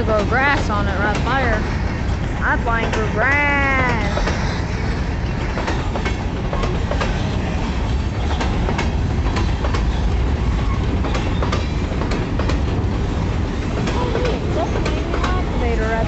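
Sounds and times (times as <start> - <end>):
freight train cars rolling: 0.0 - 16.0
wheels clacking on rail joints: 0.0 - 16.0.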